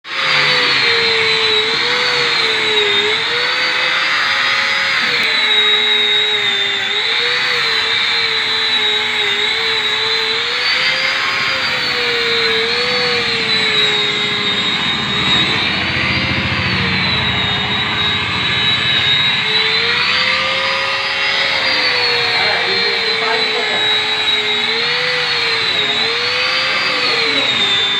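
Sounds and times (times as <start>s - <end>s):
polishing machine whining on steel: 0.0s - 27.9s.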